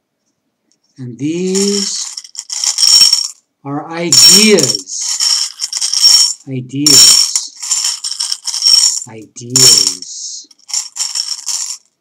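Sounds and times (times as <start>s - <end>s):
small hard objects rattling: 1.4s - 3.4s, 4.1s - 11.9s.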